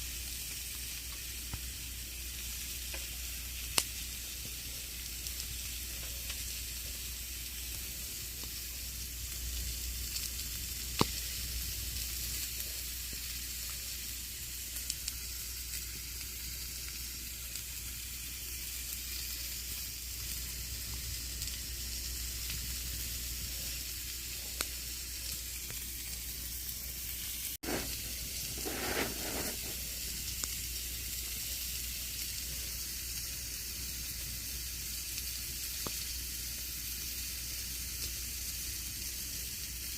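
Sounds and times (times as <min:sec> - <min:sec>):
campfire crackling and popping: 0:02.4 - 0:23.9, 0:24.6 - 0:39.9.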